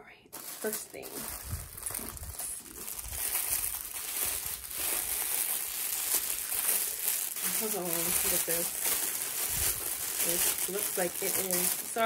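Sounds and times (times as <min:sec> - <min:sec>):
packaging crinkling: 0:00.3 - 0:12.0.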